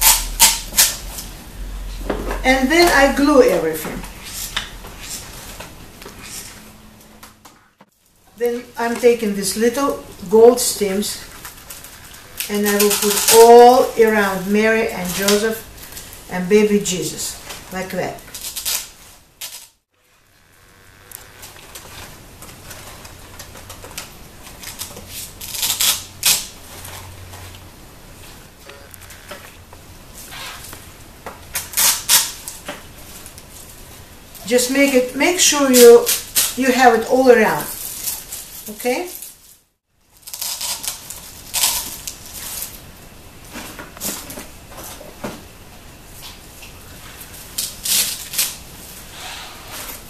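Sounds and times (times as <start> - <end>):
artificial flower stems rustling: 0.0 - 50.0.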